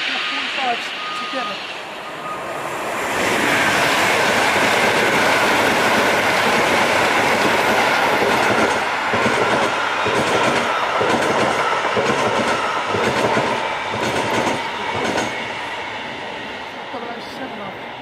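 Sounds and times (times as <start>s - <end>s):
passenger train passing: 0.0s - 18.0s.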